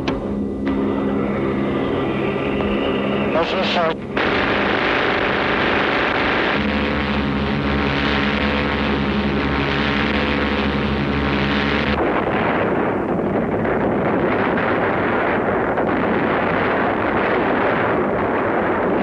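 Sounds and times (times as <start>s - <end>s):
turboprop engines droning: 0.0s - 19.0s
rough rushing noise: 0.7s - 19.0s.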